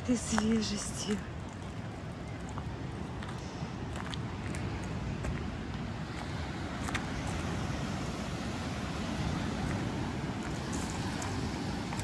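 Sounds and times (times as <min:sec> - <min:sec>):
small waves breaking on beach: 0:00.0 - 0:12.0
wind rumbling on microphone: 0:00.0 - 0:12.0.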